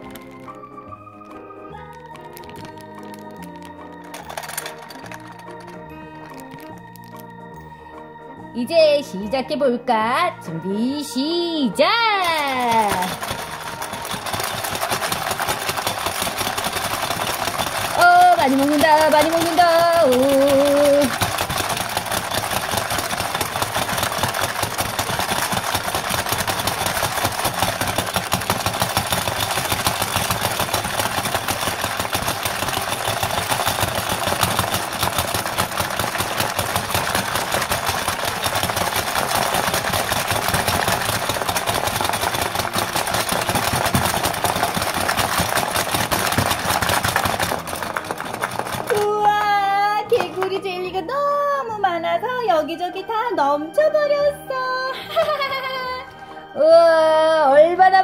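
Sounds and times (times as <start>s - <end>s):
plastic game clattering: 0.0s - 7.5s, 11.8s - 50.9s.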